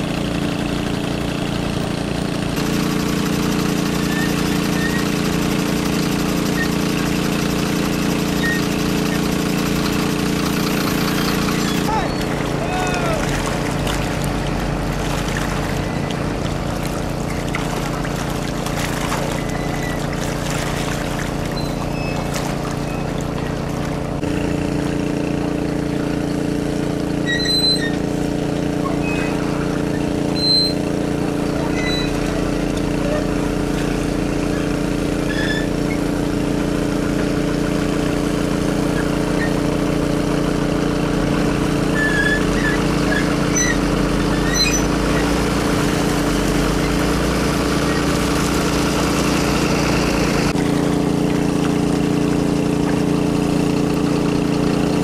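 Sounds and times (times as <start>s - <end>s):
crane engine running: 0.0s - 55.0s
water splashing and dripping: 2.8s - 55.0s.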